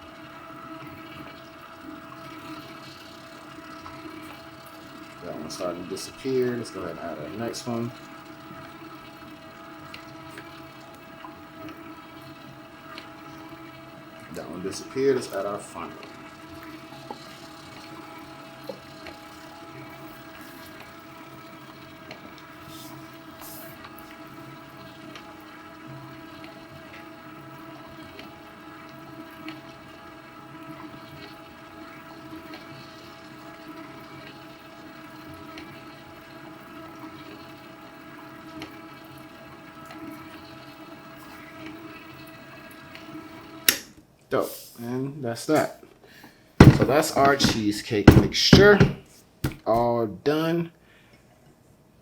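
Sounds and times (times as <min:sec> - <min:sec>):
electric mixer running: 0:00.0 - 0:43.8, 0:46.6 - 0:49.7.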